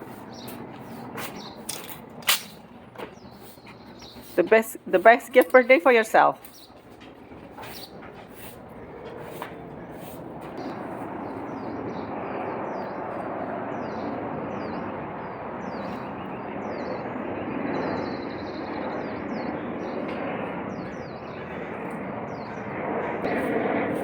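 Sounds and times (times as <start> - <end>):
small birds chirping: 0.0 - 20.1.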